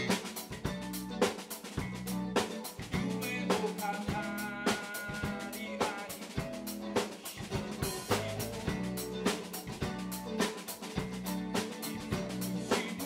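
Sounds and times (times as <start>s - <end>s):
band playing rock song: 0.0s - 13.0s.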